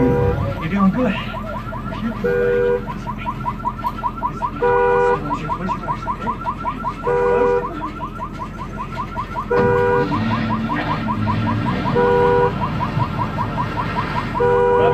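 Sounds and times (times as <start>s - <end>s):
car alarm chirping warble: 0.0s - 14.9s
car alarm honk: 0.0s - 14.9s.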